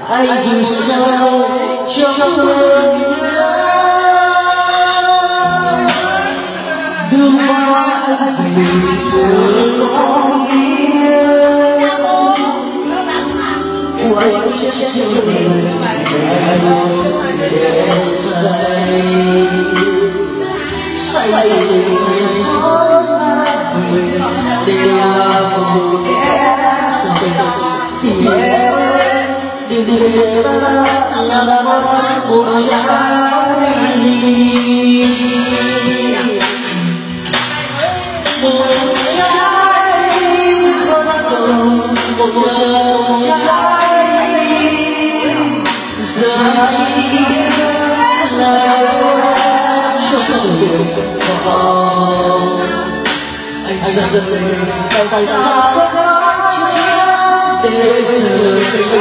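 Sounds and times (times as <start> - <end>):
backing music: 0.0 - 59.0
man singing into microphone: 0.0 - 59.0.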